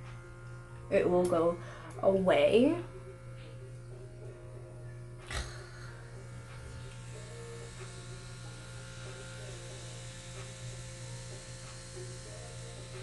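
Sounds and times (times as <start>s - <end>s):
pore vacuum motor hum: 0.0s - 13.0s.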